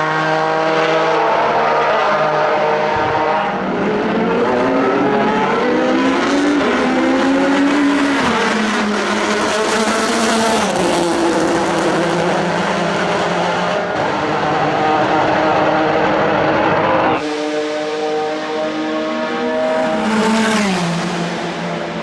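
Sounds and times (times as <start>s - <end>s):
racing engine at high revs: 0.0s - 22.0s.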